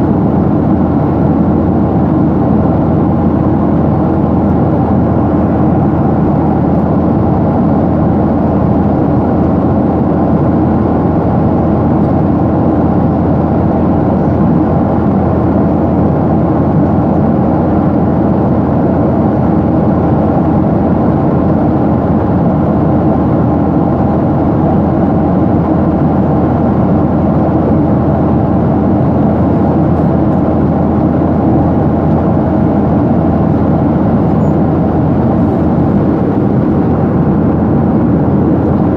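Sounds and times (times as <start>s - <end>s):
jet airliner cabin rumble: 0.0s - 38.9s.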